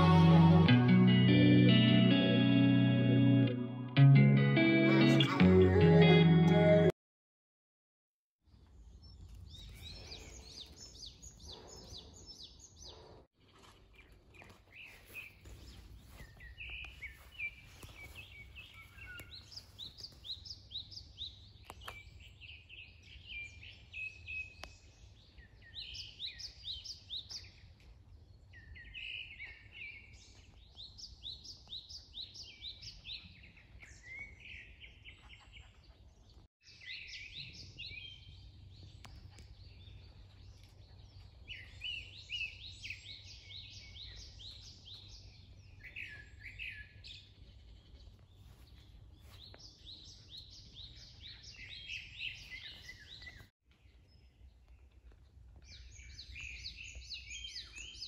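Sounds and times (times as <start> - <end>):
songbirds chirping and trilling: 8.5 - 58.0.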